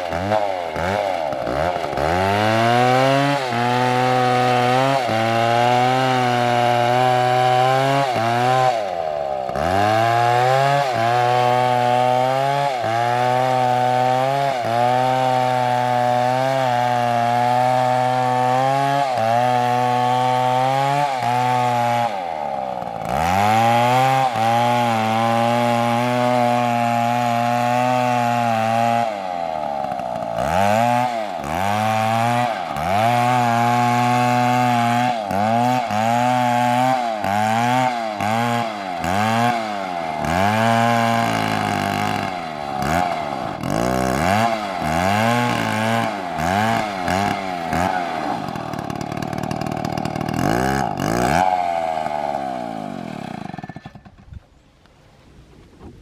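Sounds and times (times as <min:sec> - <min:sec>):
chainsaw cutting at high revs: 0:00.0 - 0:54.2.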